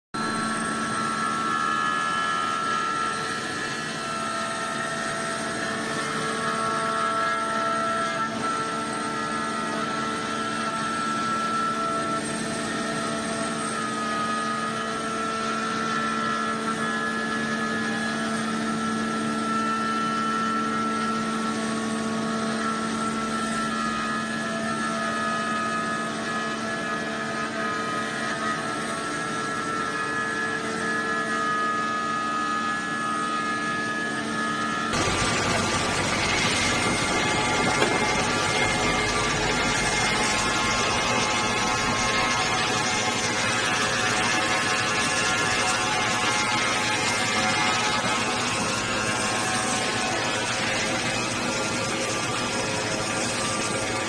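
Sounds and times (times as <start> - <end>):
router machine hum and whine: 0.2 - 54.0.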